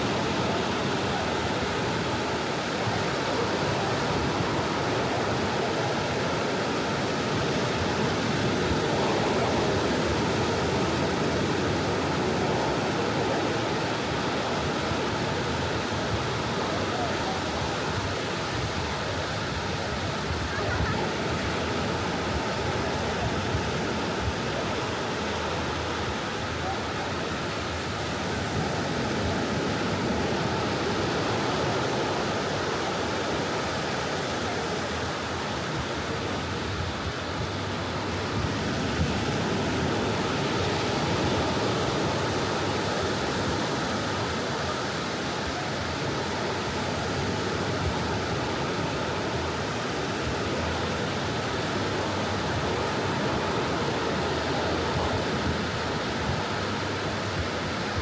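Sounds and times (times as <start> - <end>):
soft ocean waves on beach: 0.0 - 58.0.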